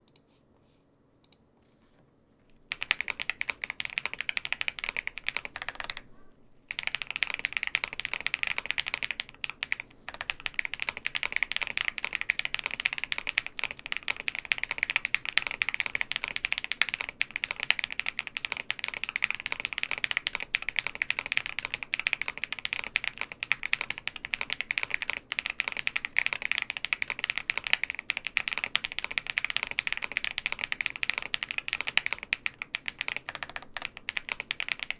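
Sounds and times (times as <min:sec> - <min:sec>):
fast typing on mechanical keyboard: 0:02.7 - 0:06.1, 0:06.7 - 0:34.9.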